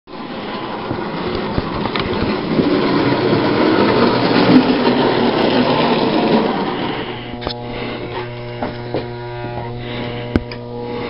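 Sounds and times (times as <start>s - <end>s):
wheels rattling over metal rails: 0.1s - 9.1s
low hum: 0.1s - 11.0s
toy train motor whirring: 0.2s - 11.0s.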